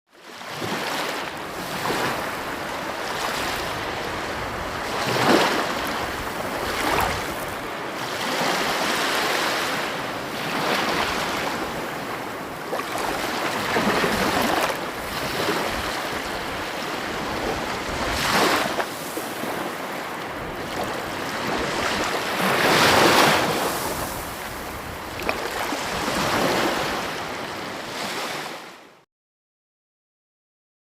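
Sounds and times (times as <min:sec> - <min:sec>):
sea waves breaking on shore: 0:00.2 - 0:29.0.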